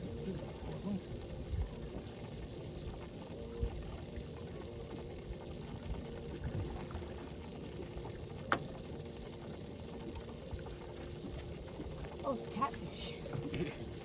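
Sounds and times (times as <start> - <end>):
faint steady hum: 0.0 - 14.0
low water noise: 0.0 - 14.0.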